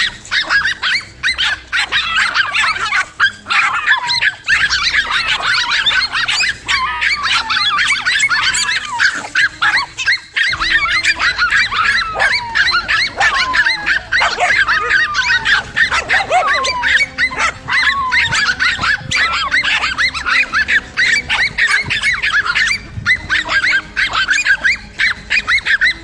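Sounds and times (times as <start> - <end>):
dogs barking and yapping: 0.0 - 26.0.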